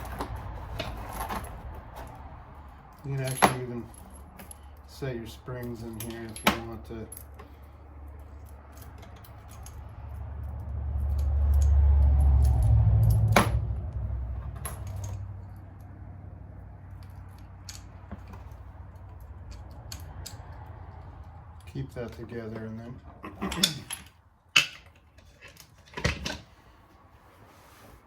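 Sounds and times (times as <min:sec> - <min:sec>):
metal parts clinking and rattling: 0:00.0 - 0:13.7, 0:14.4 - 0:15.8, 0:16.9 - 0:26.5.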